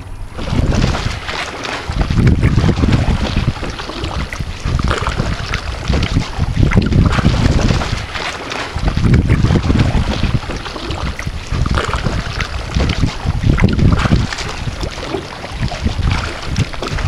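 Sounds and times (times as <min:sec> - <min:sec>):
paddle strokes splashing in water: 0:00.0 - 0:17.0
wind buffeting microphone: 0:00.0 - 0:17.0.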